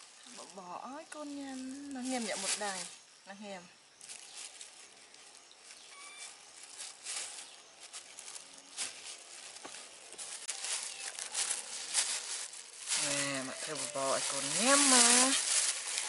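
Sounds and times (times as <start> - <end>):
plastic bag rustling: 0.0 - 3.1, 4.0 - 16.0.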